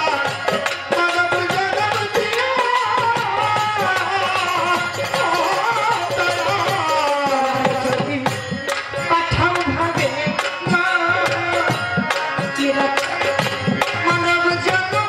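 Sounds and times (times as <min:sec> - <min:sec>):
hand drum beat: 0:00.0 - 0:15.0.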